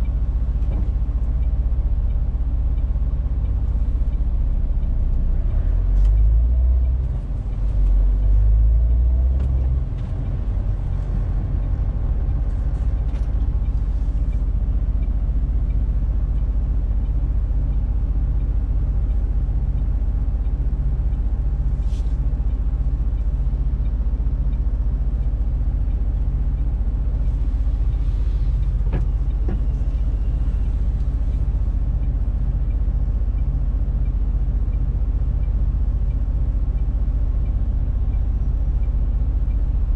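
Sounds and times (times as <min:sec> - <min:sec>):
truck diesel engine: 0:00.0 - 0:39.9.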